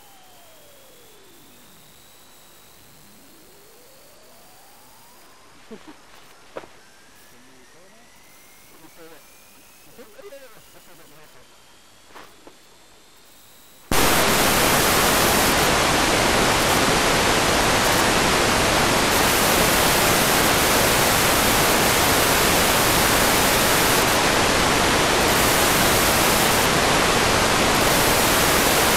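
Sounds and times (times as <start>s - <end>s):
loud static hiss: 0.0s - 28.9s.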